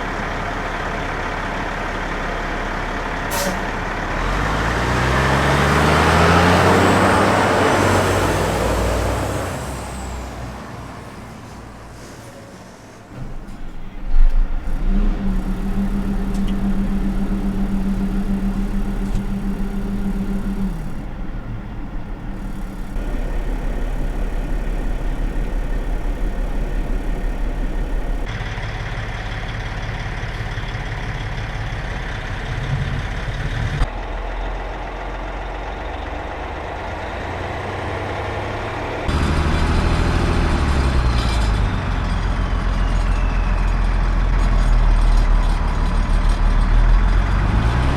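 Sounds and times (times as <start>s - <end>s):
diesel truck engine running: 0.0s - 12.1s, 12.9s - 33.3s, 33.9s - 47.9s.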